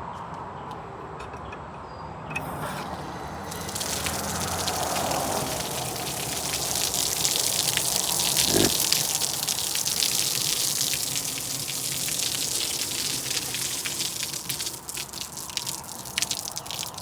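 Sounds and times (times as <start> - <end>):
water gushing and splashing: 2.4 - 17.0.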